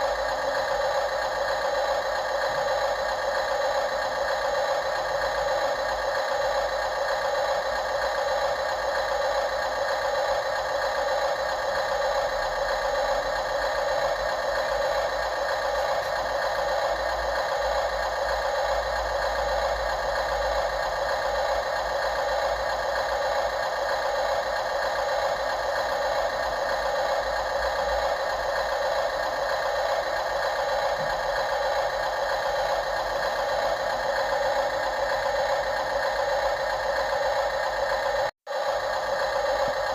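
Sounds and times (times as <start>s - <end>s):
whir of small motors: 0.0s - 39.9s.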